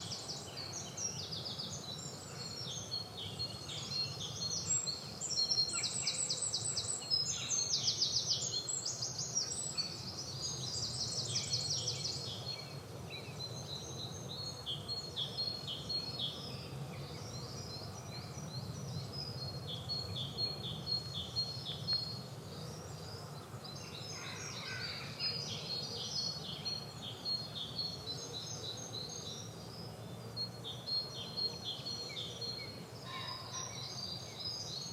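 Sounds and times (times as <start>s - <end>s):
garden birds singing: 0.0s - 34.9s.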